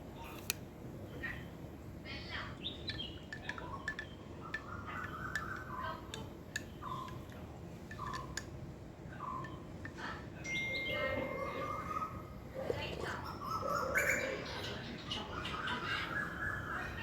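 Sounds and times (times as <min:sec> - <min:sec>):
birds chirping: 0:01.0 - 0:17.0.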